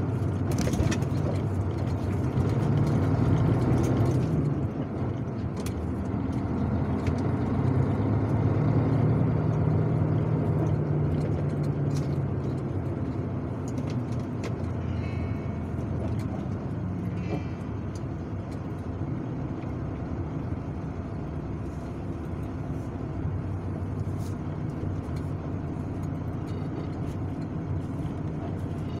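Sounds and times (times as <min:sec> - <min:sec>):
truck diesel engine rumble: 0:00.0 - 0:29.0.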